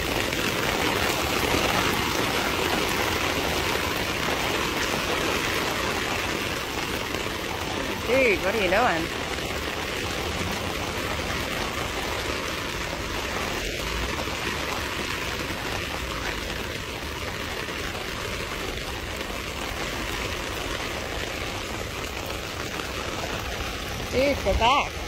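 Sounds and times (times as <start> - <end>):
heavy rain on water: 0.0 - 25.0.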